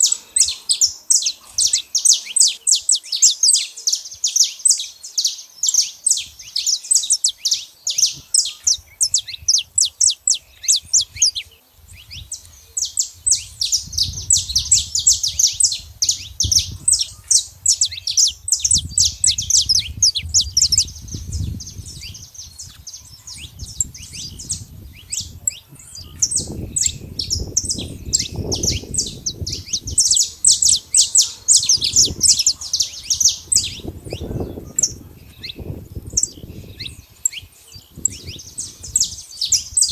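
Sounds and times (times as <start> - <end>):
finch singing sharp trills: 0.0 - 39.9.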